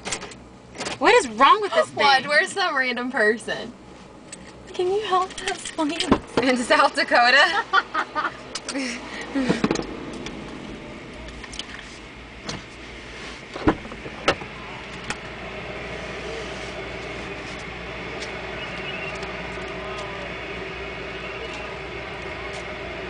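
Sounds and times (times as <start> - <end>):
steady hum with faint tones: 0.0 - 23.0.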